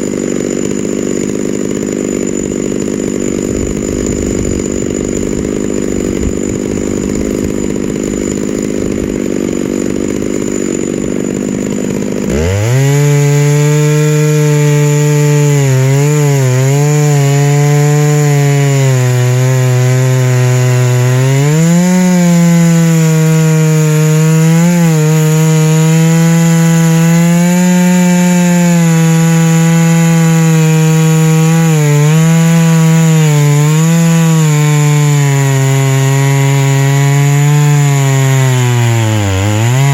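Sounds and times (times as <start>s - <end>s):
chainsaw cutting log: 0.0s - 39.9s
chainsaw idling and revving: 0.0s - 39.9s.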